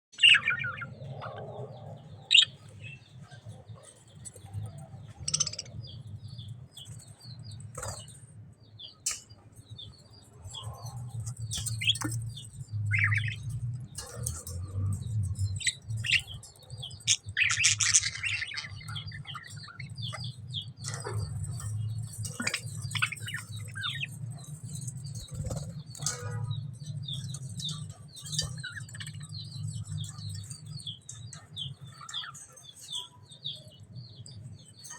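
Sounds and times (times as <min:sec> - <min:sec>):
budgerigars chirping: 0:00.2 - 0:08.1, 0:09.8 - 0:34.9.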